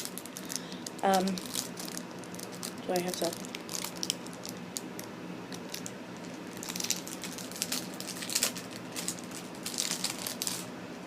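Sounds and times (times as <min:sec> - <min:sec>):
packaging rustling and crinkling: 0:00.0 - 0:10.7.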